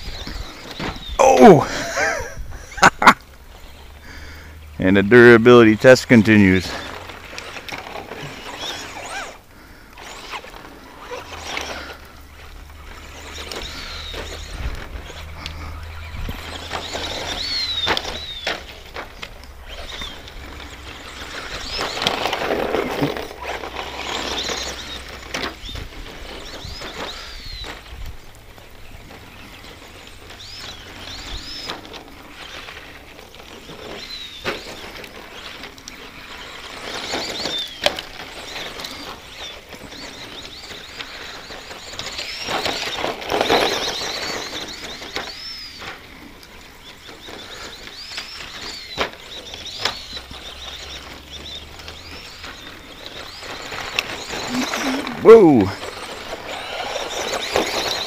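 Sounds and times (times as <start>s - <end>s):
tyre noise on dirt: 0.0s - 58.0s
rc truck motor whining: 2.6s - 58.0s.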